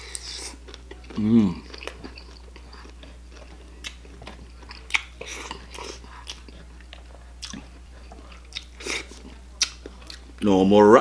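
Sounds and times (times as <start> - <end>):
man chewing food: 0.0 - 10.4.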